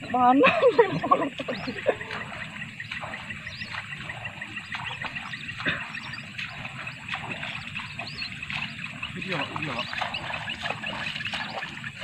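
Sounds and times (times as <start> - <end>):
ducks whistling: 0.0 - 12.0
fast chirping: 1.0 - 12.0.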